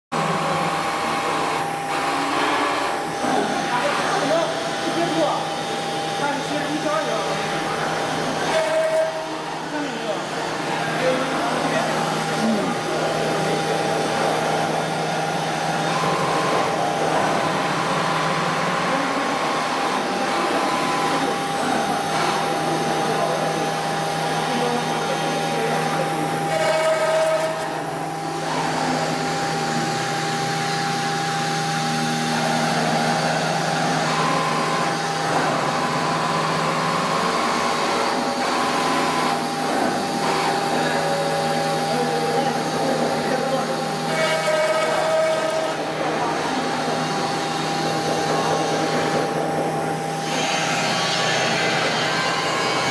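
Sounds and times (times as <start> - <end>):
cnc router whine and hum: 0.2 - 52.9.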